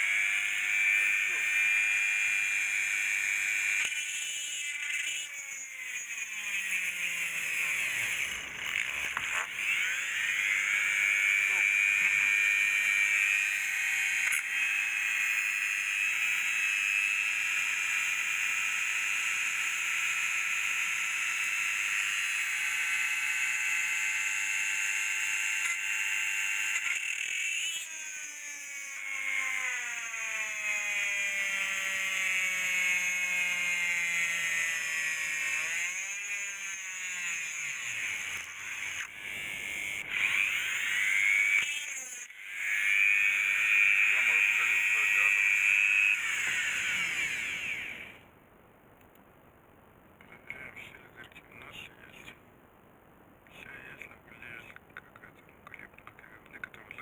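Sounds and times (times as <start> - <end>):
electric motor whining: 0.0 - 48.2.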